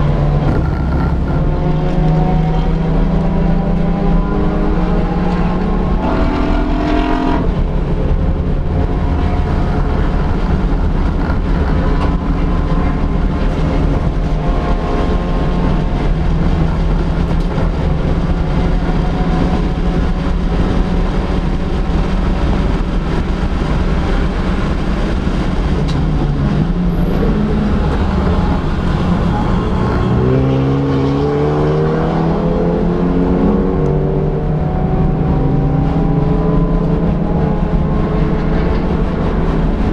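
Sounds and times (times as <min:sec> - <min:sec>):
race car engine at high revs: 0:00.0 - 0:39.9
wind and road noise: 0:00.0 - 0:39.9.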